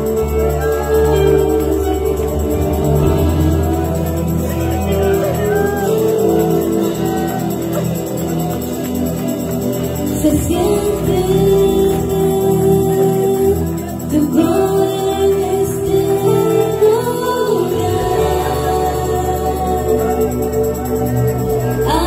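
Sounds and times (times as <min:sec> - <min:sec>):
bass guitar: 0:00.0 - 0:22.0
electric guitar: 0:00.0 - 0:22.0
voices singing: 0:00.0 - 0:22.0.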